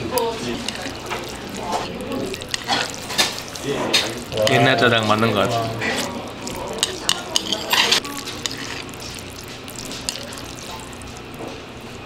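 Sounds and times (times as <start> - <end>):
noodles stirring: 0.0 - 12.0.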